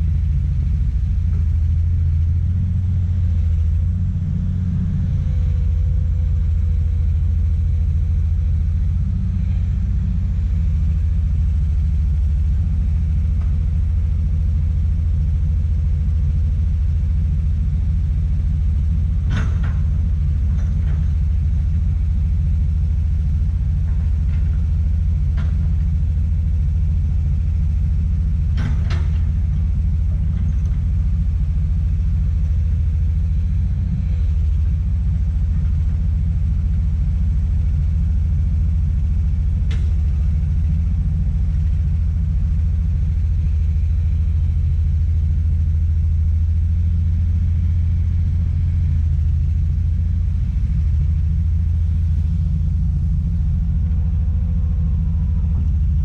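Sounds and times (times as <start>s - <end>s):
excavator diesel engine rumbling: 0.0s - 56.0s.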